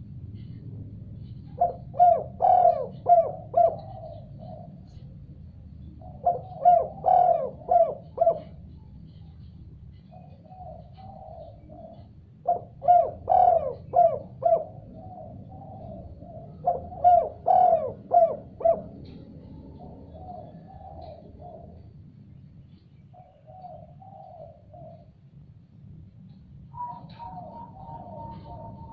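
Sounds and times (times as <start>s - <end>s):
dove cooing: 1.2s - 22.0s, 23.1s - 25.2s, 26.7s - 28.9s.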